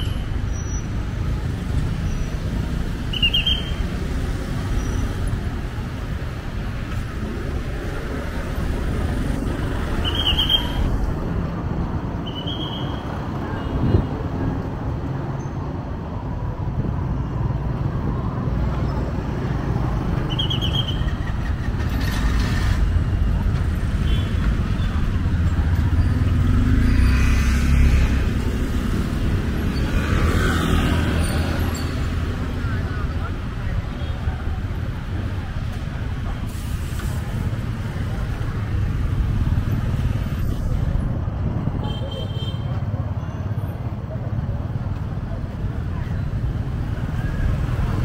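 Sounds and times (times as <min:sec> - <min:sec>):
traffic engines passing: 0:00.0 - 0:48.0.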